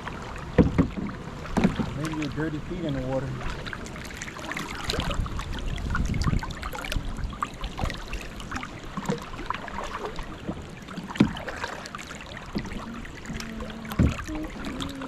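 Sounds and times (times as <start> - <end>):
paddle splashes: 0.0 - 15.0
water splashing and trickling: 0.0 - 15.0.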